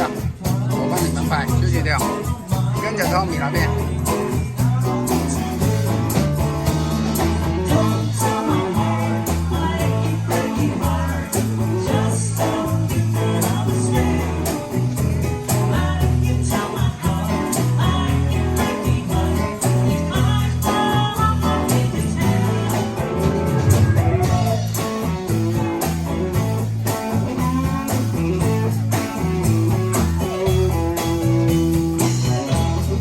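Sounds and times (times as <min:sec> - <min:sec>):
song with guitar and beat: 0:00.0 - 0:33.0.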